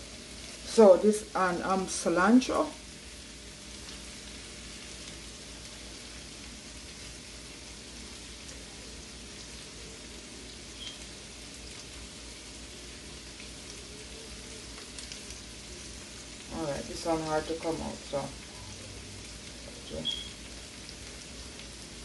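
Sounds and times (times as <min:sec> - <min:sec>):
vegetables sizzling in a pot: 0:00.0 - 0:22.0.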